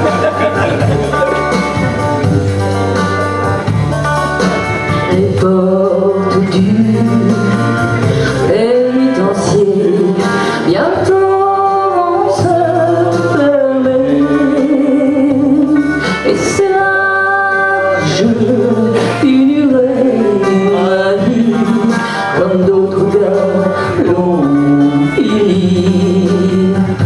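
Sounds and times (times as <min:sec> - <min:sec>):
instrumental accompaniment: 0:00.0 - 0:27.0
person singing into microphone: 0:00.0 - 0:27.0.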